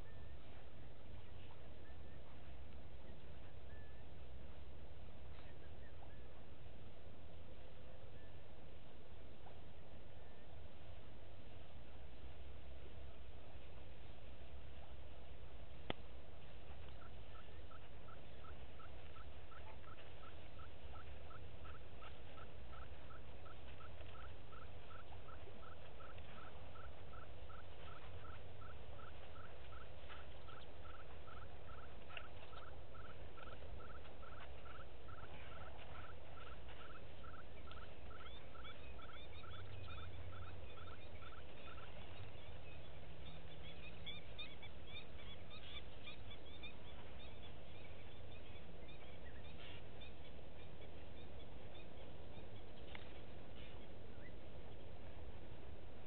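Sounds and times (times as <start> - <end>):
birds chirping high: 0.0 - 8.7, 12.9 - 56.0
low steady rumble: 0.0 - 56.0.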